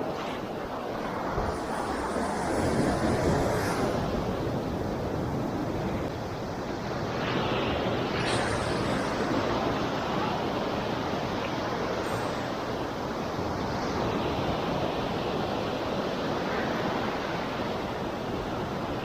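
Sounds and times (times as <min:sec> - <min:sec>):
ocean surf rushing: 0:00.0 - 0:19.0
wind on microphone: 0:00.0 - 0:19.0.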